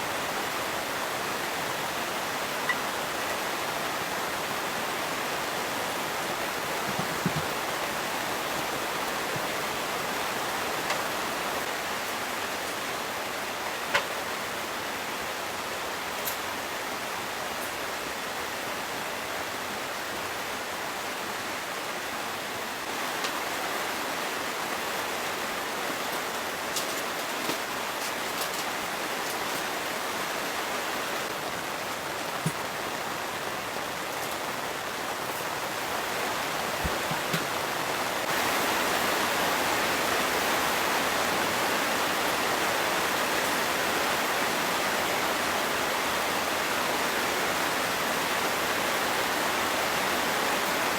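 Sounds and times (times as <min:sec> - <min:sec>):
wind and rain storm: 0:00.0 - 0:50.9.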